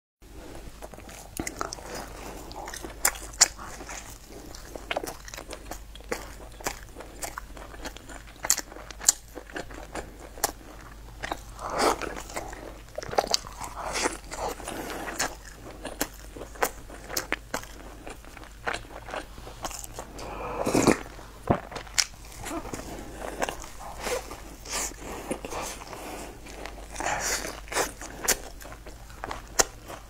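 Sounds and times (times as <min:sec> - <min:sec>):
crunching pastry chewing: 0:00.4 - 0:30.0.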